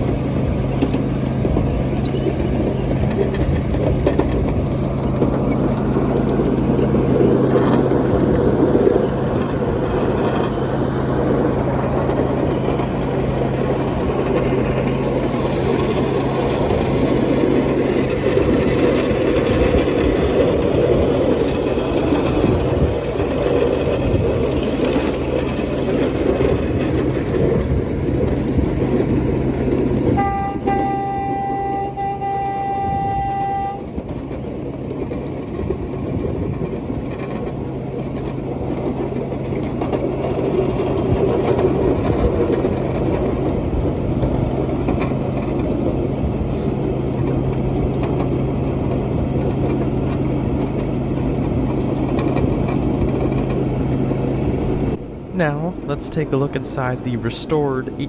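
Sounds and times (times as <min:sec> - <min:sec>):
small train engine running: 0:00.0 - 0:58.0.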